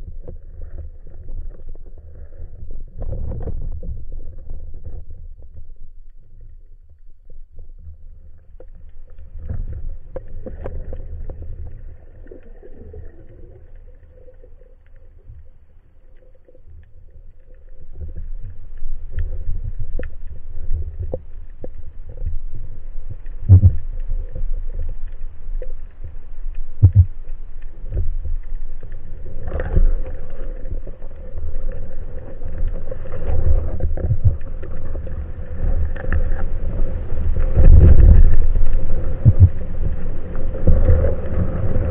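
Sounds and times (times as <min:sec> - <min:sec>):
muffled underwater rumble: 0:00.0 - 0:41.9.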